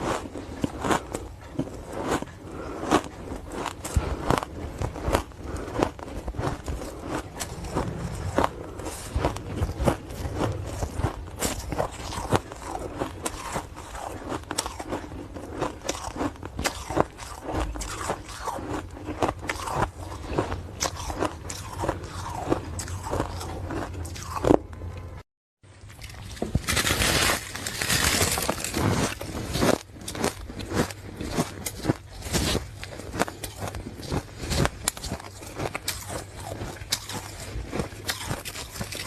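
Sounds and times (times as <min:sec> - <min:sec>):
person crunching ice: 0:00.0 - 0:24.6, 0:25.8 - 0:39.0.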